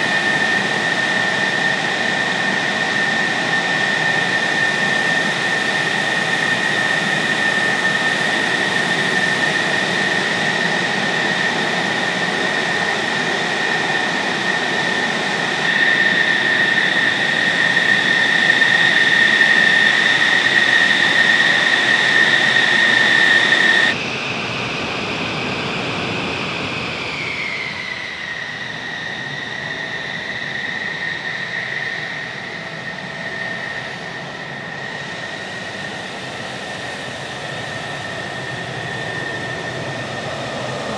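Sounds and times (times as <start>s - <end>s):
jet engine high whine: 0.0s - 40.9s.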